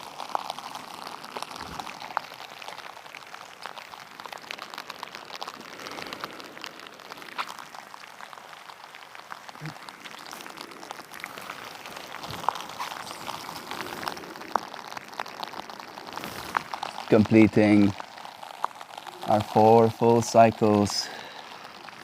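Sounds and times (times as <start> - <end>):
rain drops pattering: 0.0 - 22.0.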